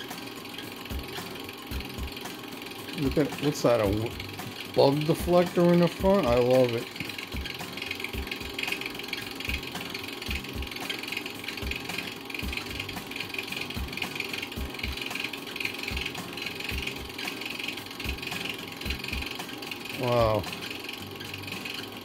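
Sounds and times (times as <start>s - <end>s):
film projector clattering: 0.0s - 22.0s.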